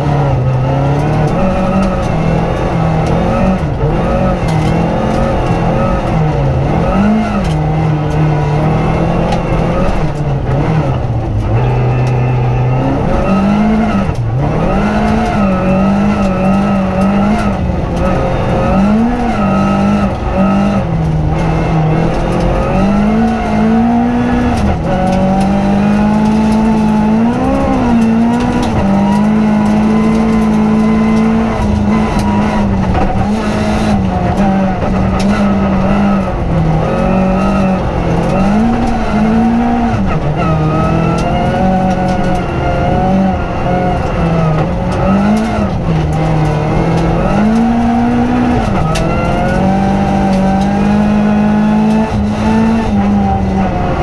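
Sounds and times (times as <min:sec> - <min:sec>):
rally car engine revving: 0:00.0 - 0:54.0
tyre noise on dirt road: 0:00.0 - 0:54.0.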